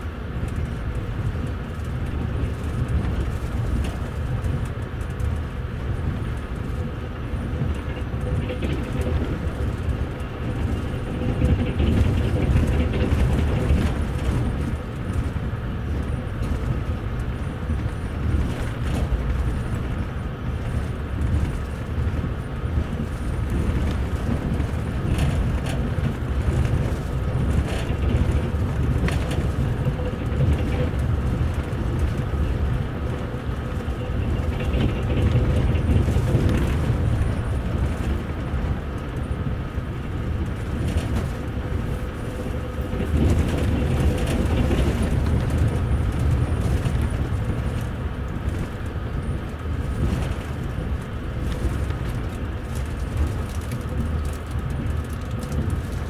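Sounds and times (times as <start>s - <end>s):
moving train rumble: 0.0s - 56.0s
wheels clicking over rail joints: 0.0s - 56.0s.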